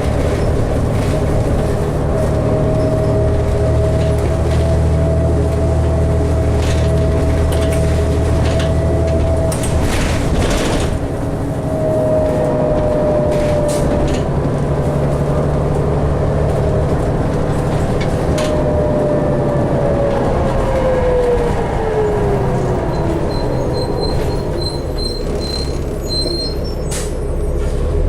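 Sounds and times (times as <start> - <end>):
bus interior rumble: 0.0 - 28.0.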